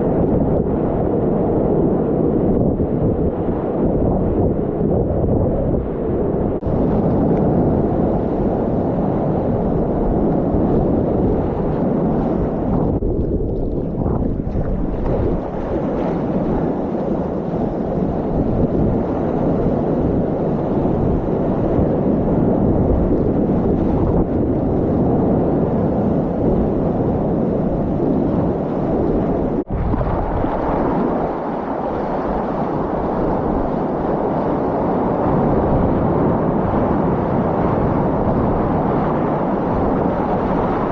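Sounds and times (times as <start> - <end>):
wind buffeting microphone: 0.0 - 40.9
waves and rushing water: 6.6 - 40.9.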